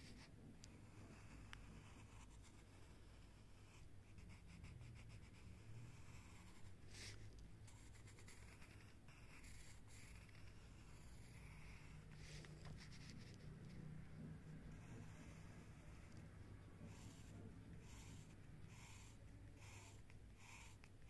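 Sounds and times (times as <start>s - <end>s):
pencil scratching on paper: 0.0s - 21.0s
steady low hum: 0.0s - 21.0s.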